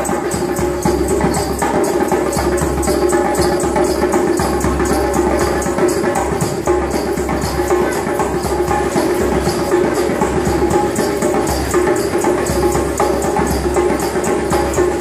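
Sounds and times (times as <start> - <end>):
djembe played by hand: 0.0 - 15.0.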